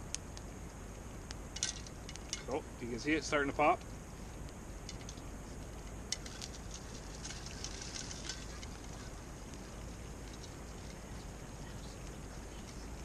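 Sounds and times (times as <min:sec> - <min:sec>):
popcorn crackles and pops: 0:00.0 - 0:02.6, 0:03.6 - 0:13.0.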